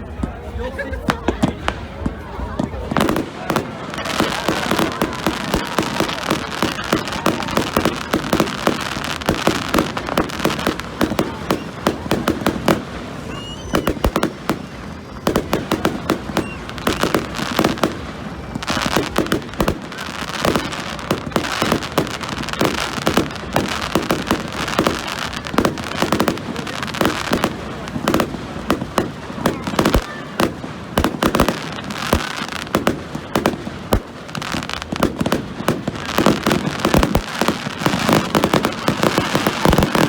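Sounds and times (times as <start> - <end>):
fireworks bangs and crackling: 0.0 - 40.0
firework whistle: 1.3 - 40.0.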